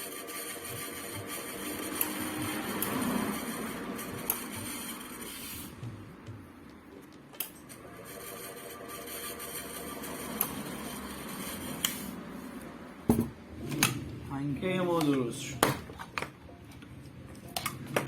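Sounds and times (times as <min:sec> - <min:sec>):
fan motor hum: 0:00.0 - 0:07.0, 0:07.6 - 0:16.0.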